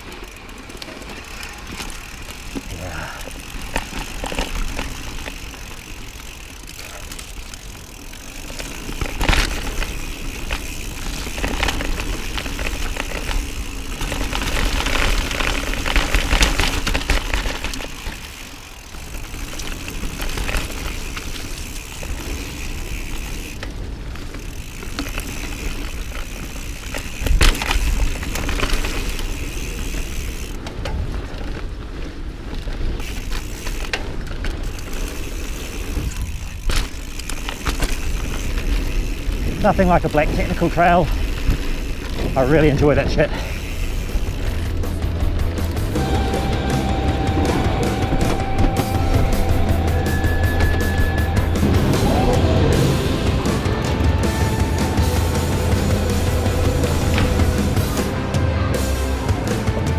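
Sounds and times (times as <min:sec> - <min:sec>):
bike tyres rattling over ground: 0:00.0 - 0:59.9.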